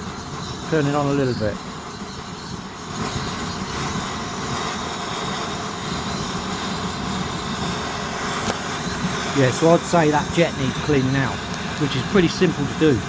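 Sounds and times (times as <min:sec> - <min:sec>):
stove burner hissing: 0:00.0 - 0:13.0.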